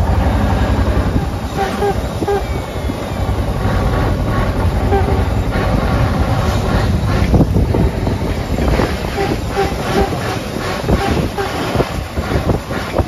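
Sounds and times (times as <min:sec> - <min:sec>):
car engine and road rumble: 0:00.0 - 0:13.0
wind buffeting microphone: 0:00.0 - 0:13.0.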